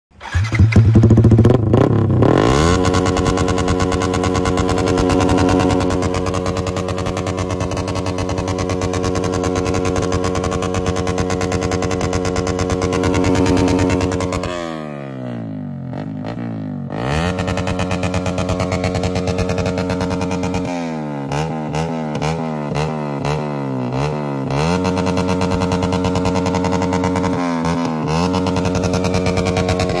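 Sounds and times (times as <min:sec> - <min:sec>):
motorcycle engine idling and revving: 0:00.1 - 0:30.0.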